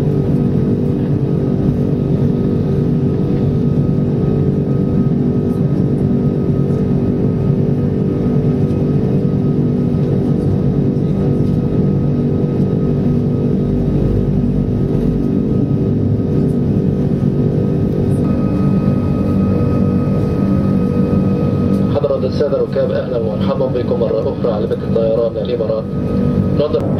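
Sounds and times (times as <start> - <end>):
aircraft cabin engine rumble: 0.0 - 26.9.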